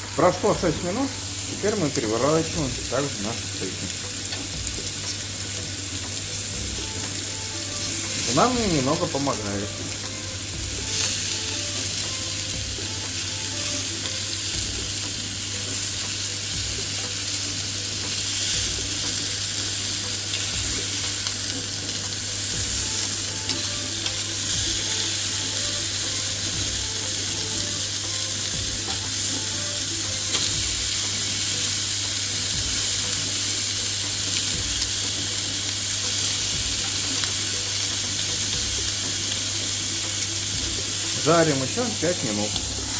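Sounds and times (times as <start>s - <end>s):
meat sizzling on a grill: 0.0s - 42.9s.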